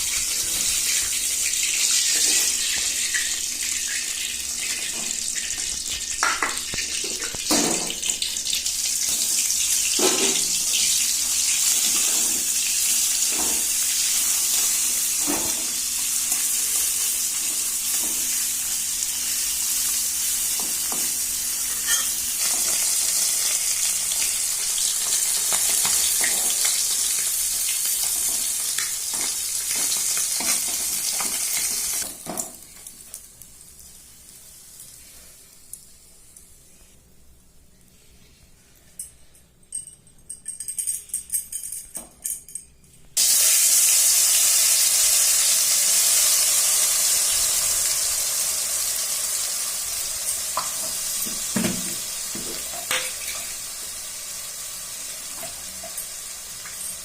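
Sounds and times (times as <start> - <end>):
food sizzling in hot oil: 0.0 - 32.3, 43.2 - 57.0.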